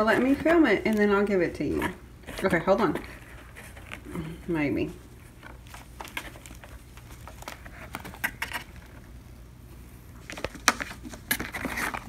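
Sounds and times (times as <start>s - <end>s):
kitten rummaging in cardboard box: 0.0s - 9.4s, 10.1s - 12.0s.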